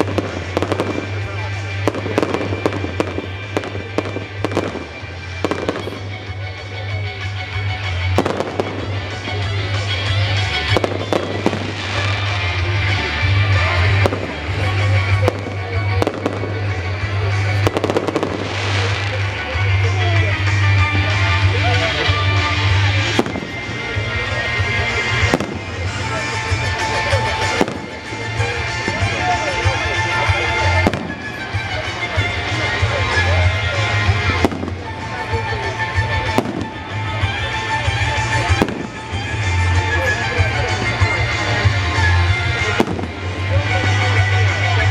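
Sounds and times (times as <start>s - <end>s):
fireworks bangs: 0.0s - 44.9s
loud music with heavy bass: 0.0s - 44.9s.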